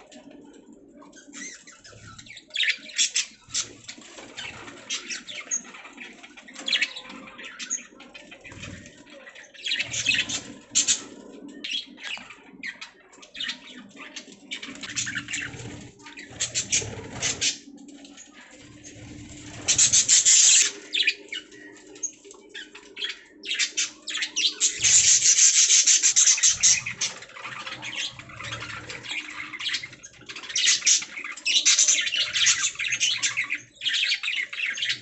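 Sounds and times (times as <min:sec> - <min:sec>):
budgies chirping and chattering: 0:00.0 - 0:35.0.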